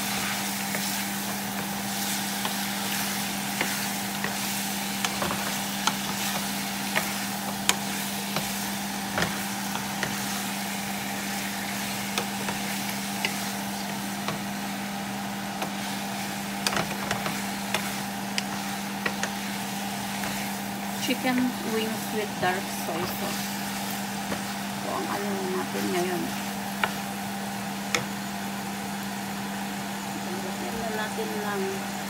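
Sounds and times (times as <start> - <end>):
food sizzling in oil: 0.0 - 32.0
steady low hum: 0.0 - 32.0
spatula scraping and knocking pan: 0.1 - 14.5, 15.5 - 27.1.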